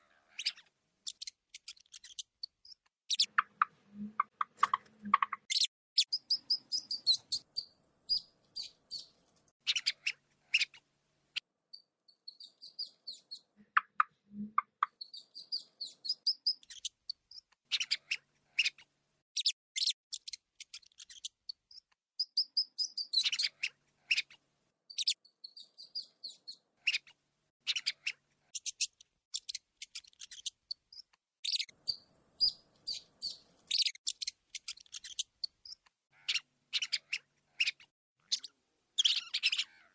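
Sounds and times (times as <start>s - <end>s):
rats squeaking: 0.3s - 10.8s, 11.7s - 39.9s.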